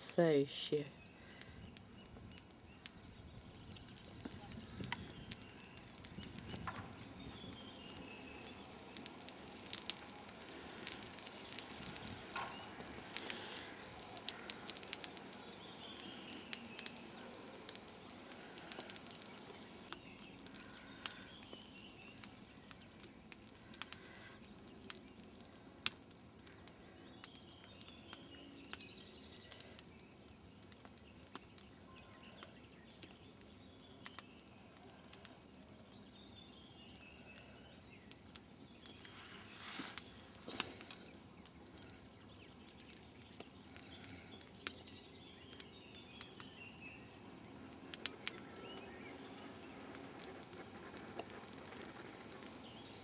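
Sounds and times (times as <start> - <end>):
bonfire crackling and popping: 0.0 - 53.0
birds singing trills: 0.2 - 9.8, 11.0 - 17.6, 19.2 - 25.3, 26.8 - 39.8, 40.5 - 53.0.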